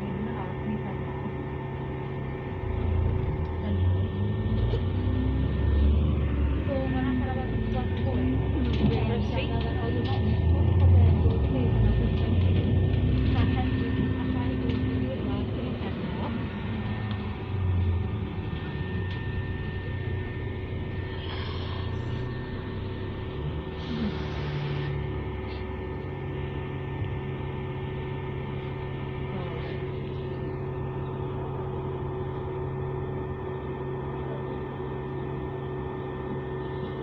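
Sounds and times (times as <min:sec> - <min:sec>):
bus engine whining and droning: 0:00.0 - 0:37.0.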